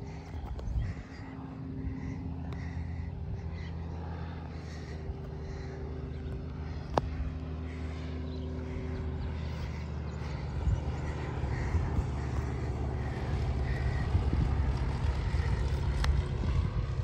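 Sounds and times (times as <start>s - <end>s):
propeller airplane engine drone: 0.0s - 17.0s.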